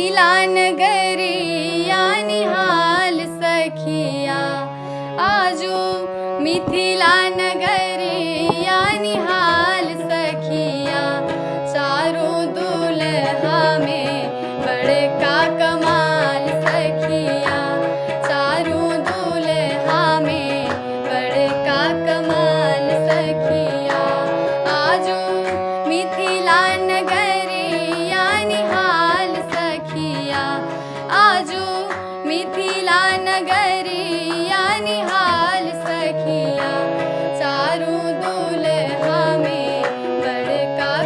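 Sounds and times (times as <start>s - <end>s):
girl singing: 0.0s - 41.0s
regular percussion: 1.9s - 41.0s
held drone: 3.2s - 41.0s.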